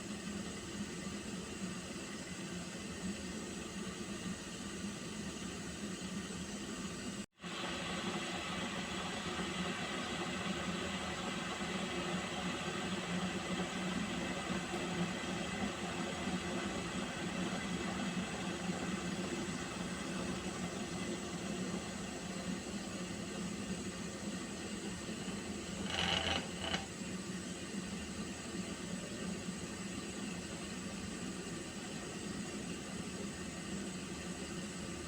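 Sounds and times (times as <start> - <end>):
water heating hiss: 0.0 - 35.0.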